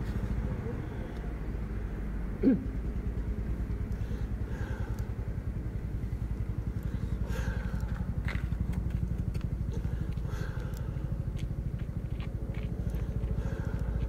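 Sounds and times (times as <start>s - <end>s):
motor throbbing steadily: 0.0s - 14.0s.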